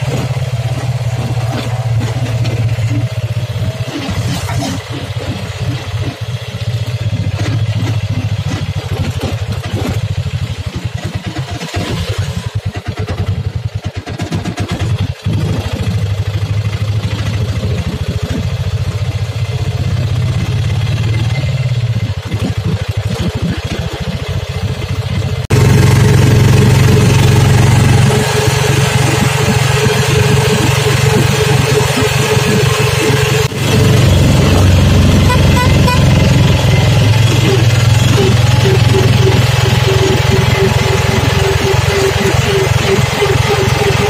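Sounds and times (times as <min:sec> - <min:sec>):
road noise: 0:00.0 - 0:13.0, 0:15.1 - 0:44.0
rickshaw engine running: 0:00.0 - 0:44.0.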